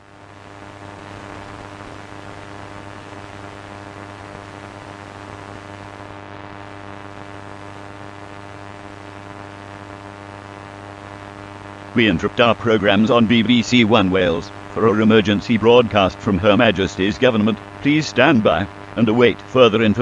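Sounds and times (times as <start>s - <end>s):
electrical buzz drone: 0.0s - 20.0s
static hiss: 0.0s - 20.0s.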